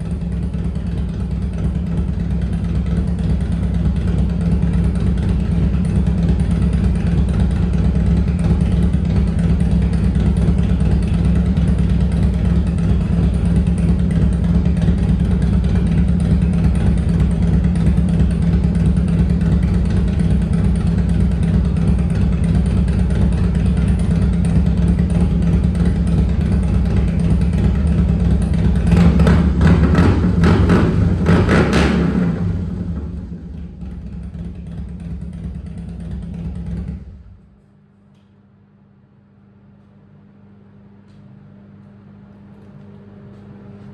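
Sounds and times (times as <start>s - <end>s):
motorcycle engine idling: 0.0s - 37.6s.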